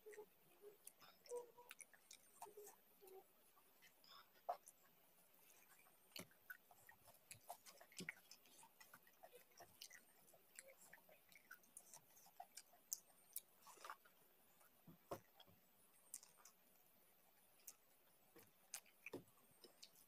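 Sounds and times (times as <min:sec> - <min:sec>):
chewing and lip-smacking: 0:00.0 - 0:20.0.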